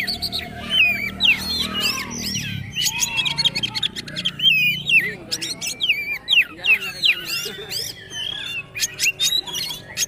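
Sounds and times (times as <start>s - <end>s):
bird singing whistled notes: 0.0s - 10.0s.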